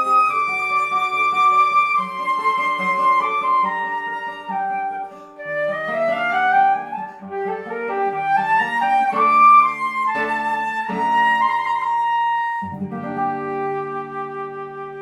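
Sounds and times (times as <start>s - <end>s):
flute melody: 0.0s - 15.0s
plucked guitar notes: 0.0s - 15.0s.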